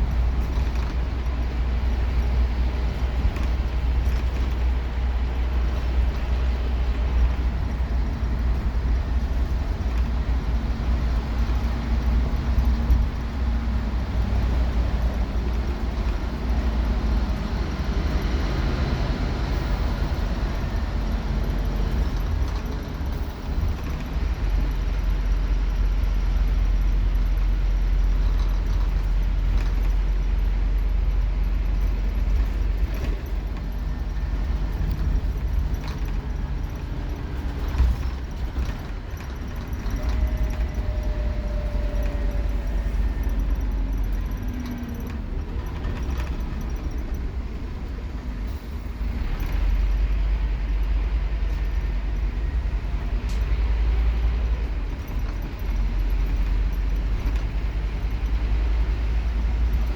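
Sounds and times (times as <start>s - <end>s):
bus engine rumbling: 0.0s - 59.9s.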